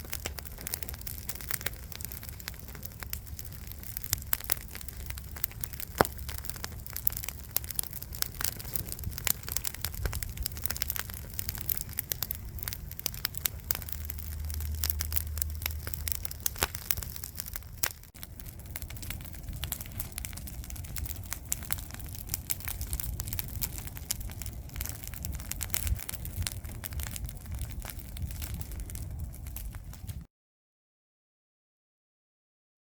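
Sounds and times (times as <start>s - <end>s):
campfire crackling and popping: 0.0s - 30.3s.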